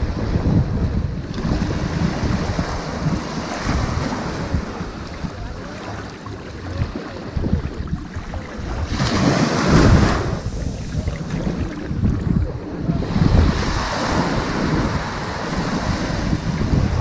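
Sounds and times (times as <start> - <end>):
ocean waves on sandy beach: 0.0 - 17.0
wind rumbling on microphone: 0.0 - 17.0.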